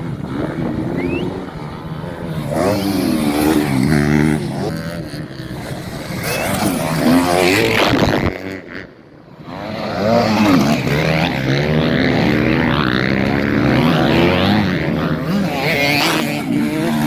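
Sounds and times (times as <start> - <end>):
motocross motorcycles revving: 0.0 - 17.0.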